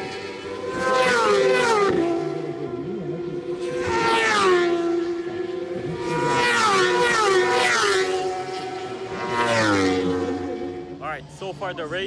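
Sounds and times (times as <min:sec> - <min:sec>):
racing motorbikes passing by: 0:00.0 - 0:12.0.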